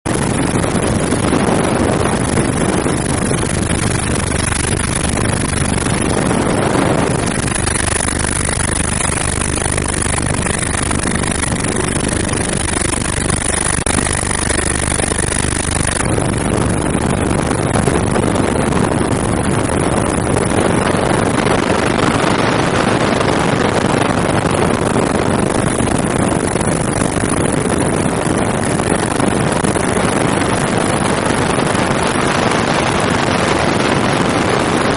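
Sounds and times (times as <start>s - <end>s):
helicopter engine and rotor: 0.0s - 34.9s
high whine: 0.1s - 34.9s.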